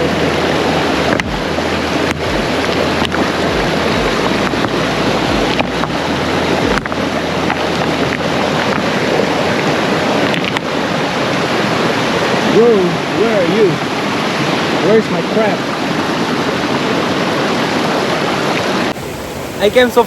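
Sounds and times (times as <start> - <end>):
rushing stream water: 0.0 - 20.0
wind rumbling on microphone: 0.0 - 20.0.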